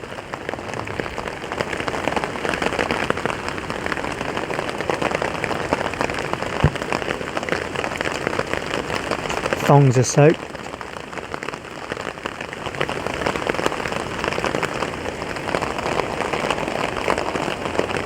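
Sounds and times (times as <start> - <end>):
rain pattering on tarp: 0.0 - 18.0.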